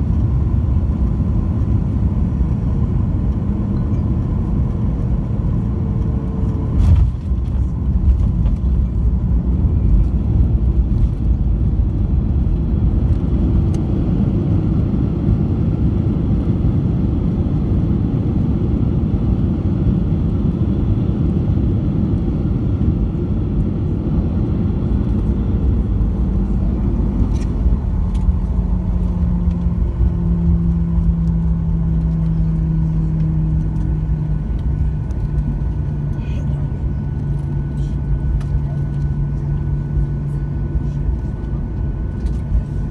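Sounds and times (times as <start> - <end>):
aircraft cabin rumble: 0.0 - 42.9
low steady hum: 0.0 - 42.9.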